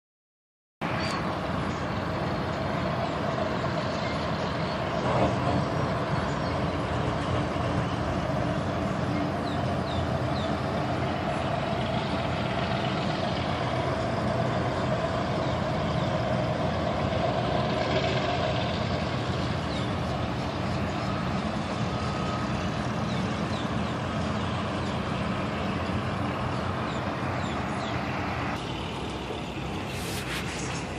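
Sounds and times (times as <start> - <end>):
traffic drone: 0.8 - 30.9.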